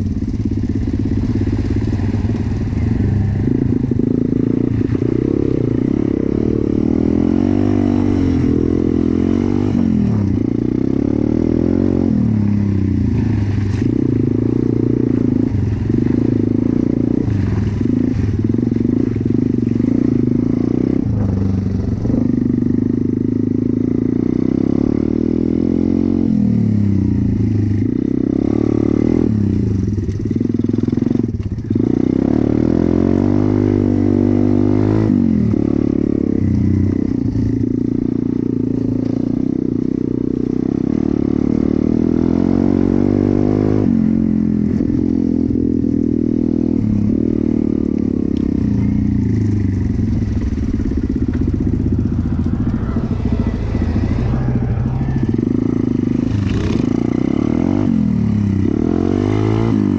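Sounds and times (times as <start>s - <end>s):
small motorcycle engine revving: 0.0s - 59.9s.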